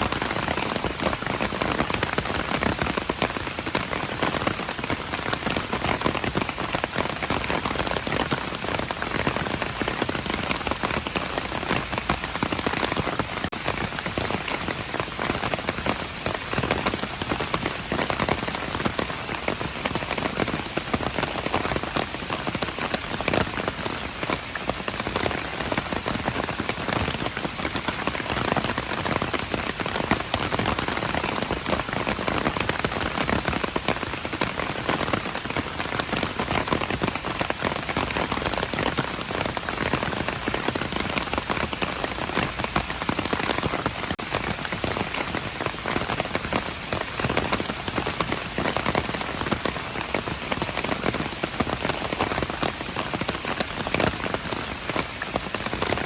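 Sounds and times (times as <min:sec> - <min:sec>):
rain pattering on hard surfaces: 0:00.0 - 0:56.0.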